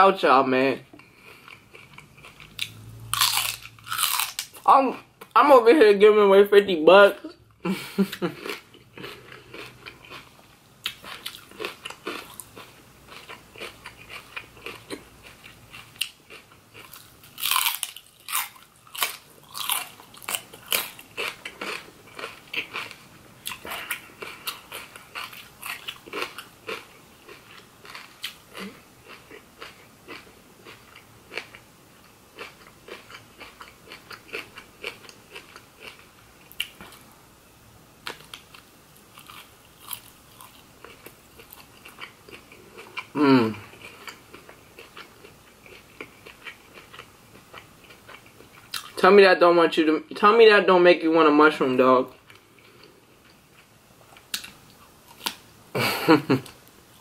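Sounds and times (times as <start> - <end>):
crunchy vegetables being chewed: 1.0 - 5.4, 8.0 - 37.2, 38.0 - 49.0, 52.1 - 57.0.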